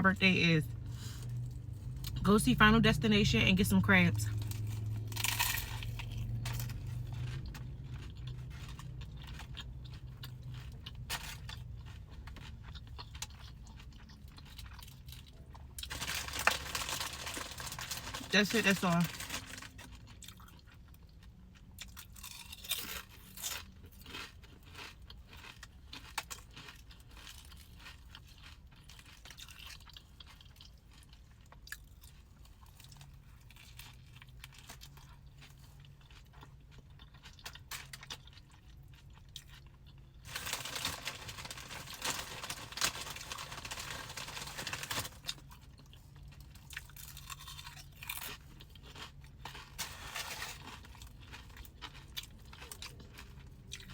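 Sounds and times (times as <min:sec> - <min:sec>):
person chewing and eating: 0:04.3 - 0:53.9.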